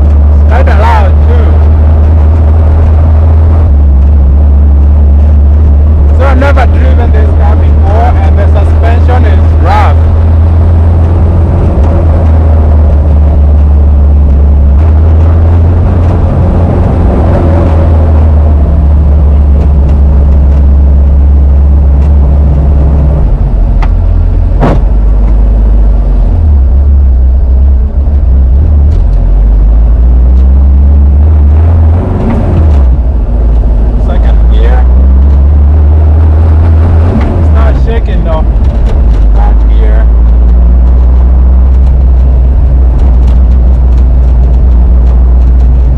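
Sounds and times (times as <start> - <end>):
air-cooled car engine running: 0.0 - 45.9.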